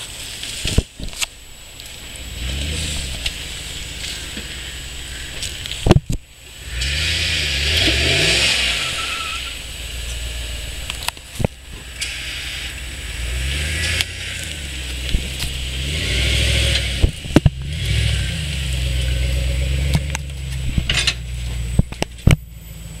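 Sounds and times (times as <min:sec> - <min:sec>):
truck engine revving: 0:02.0 - 0:23.0.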